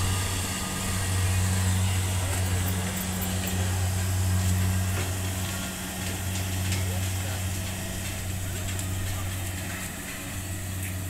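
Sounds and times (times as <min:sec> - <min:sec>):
harvester engine droning: 0:00.0 - 0:11.0.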